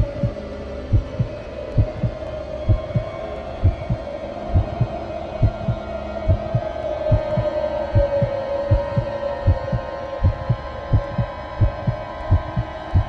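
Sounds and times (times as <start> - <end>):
heartbeat thumps: 0.0 - 0.3, 0.9 - 4.0, 4.6 - 13.0
steady droning tone: 0.0 - 13.0.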